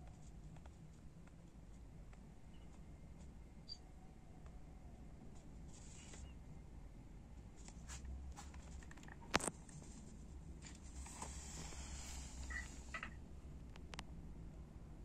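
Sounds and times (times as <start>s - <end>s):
faint background rumble: 0.0s - 15.0s.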